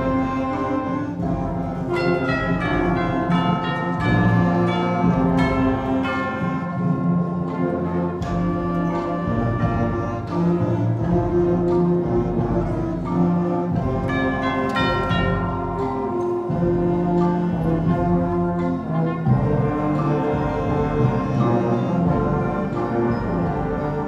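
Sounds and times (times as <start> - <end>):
school band playing brass chords: 0.0 - 24.0.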